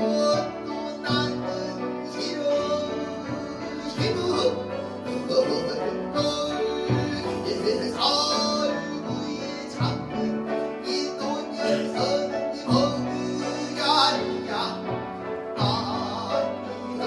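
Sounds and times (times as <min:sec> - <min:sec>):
traditional vocal singing: 0:00.0 - 0:17.0.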